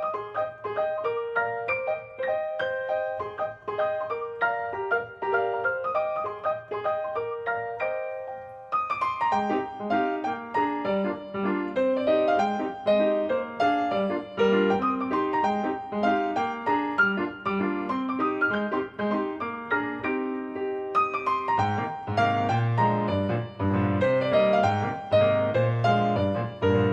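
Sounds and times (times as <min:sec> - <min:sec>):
gentle piano music: 0:00.0 - 0:26.9.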